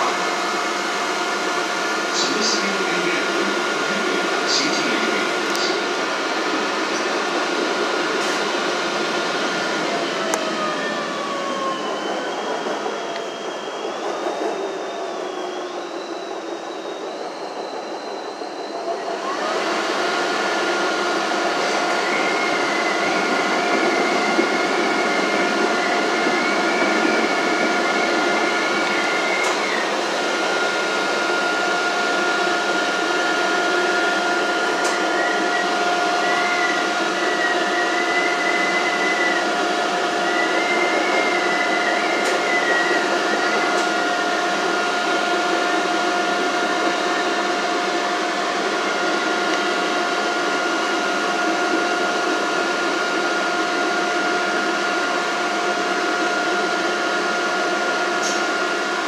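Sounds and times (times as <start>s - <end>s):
electrical whine of traction motors: 0.0s - 59.0s
train wheels on rails: 0.0s - 59.0s.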